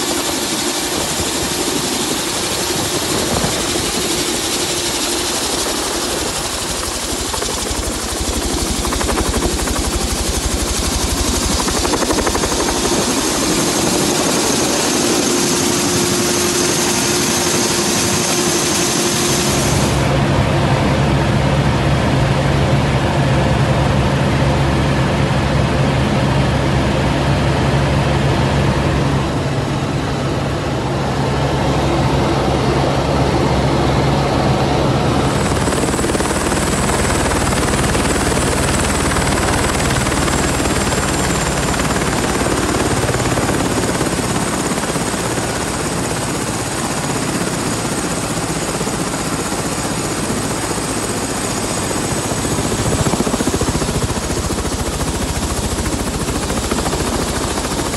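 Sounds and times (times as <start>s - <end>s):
helicopter turbine and rotor: 0.0s - 57.9s
high turbine whine: 0.0s - 57.9s.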